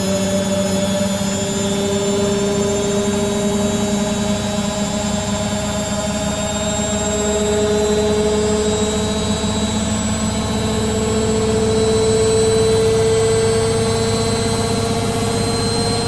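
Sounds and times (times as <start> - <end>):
washing machine motor whining: 0.1 - 16.0.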